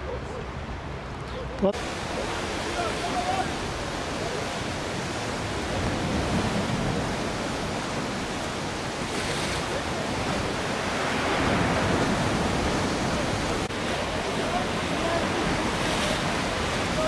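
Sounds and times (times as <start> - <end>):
rough sea waves rushing: 0.0 - 17.0
wind on microphone: 1.8 - 17.0.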